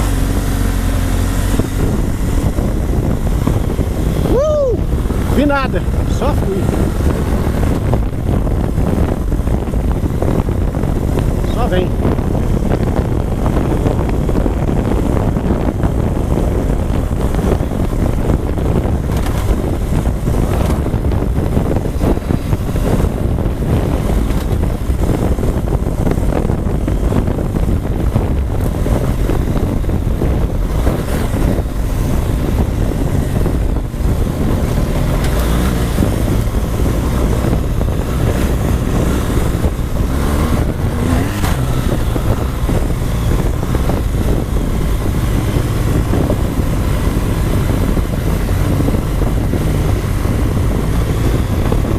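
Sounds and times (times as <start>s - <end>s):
motorcycle engine running: 0.0s - 51.9s
wind buffeting microphone: 0.0s - 51.9s.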